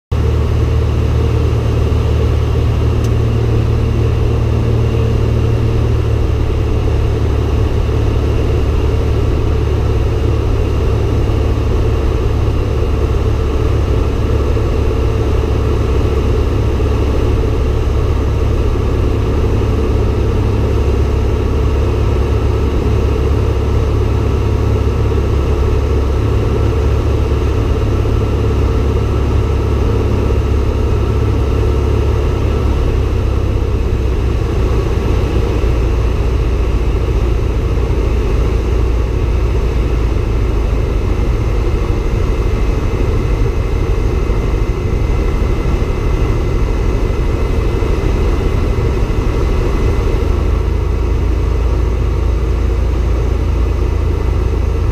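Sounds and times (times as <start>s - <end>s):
light airplane engine droning: 0.1s - 54.9s.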